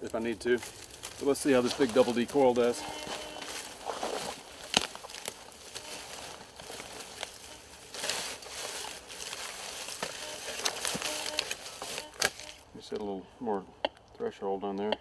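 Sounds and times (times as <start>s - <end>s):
dry leaves crunching underfoot: 0.0s - 12.6s
metal detector coil sweeping leaves: 0.0s - 12.6s
sharp crackles: 0.0s - 12.6s.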